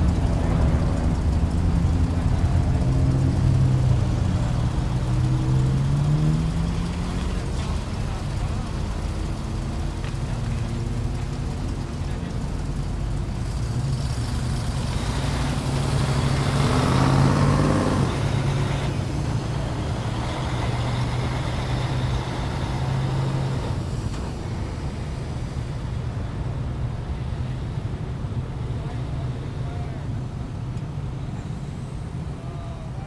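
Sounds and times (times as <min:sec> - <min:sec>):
cars passing slowly: 0:00.0 - 0:33.0
steady low engine hum: 0:00.0 - 0:33.0.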